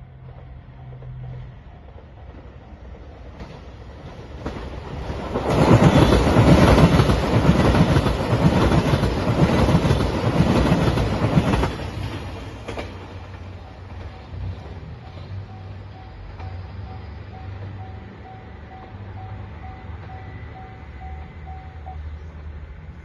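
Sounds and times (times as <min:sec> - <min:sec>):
diesel train passing: 0:00.0 - 0:23.0.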